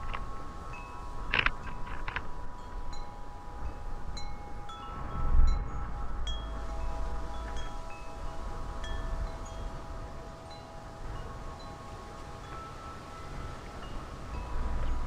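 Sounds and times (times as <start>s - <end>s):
wind chimes ringing: 0.0s - 15.0s
wind rumbling on microphone: 0.0s - 15.0s.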